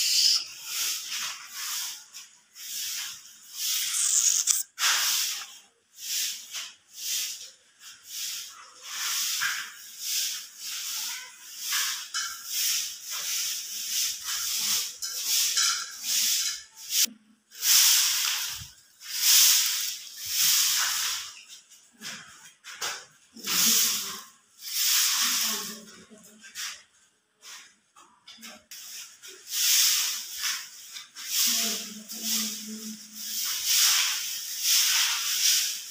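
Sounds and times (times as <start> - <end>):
broom sweeping concrete: 0.0 - 27.8, 28.7 - 35.9.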